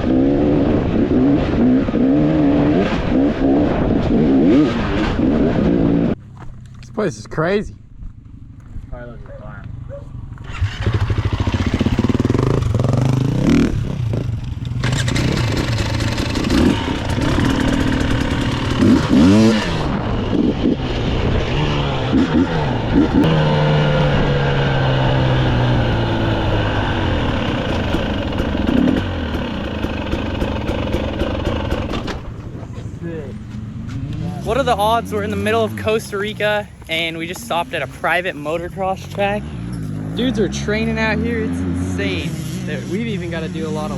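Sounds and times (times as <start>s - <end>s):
dirt bike engine revving: 0.0s - 6.2s, 9.6s - 43.9s.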